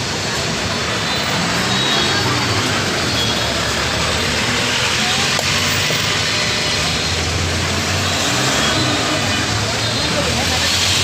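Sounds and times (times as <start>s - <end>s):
road traffic: 0.0s - 11.0s
vehicle engines running: 0.0s - 11.0s.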